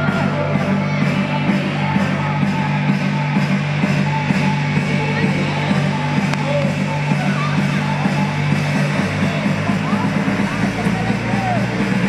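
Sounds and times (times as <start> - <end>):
heavy low bass: 0.0 - 12.0
loud music with steady beat: 0.0 - 12.0.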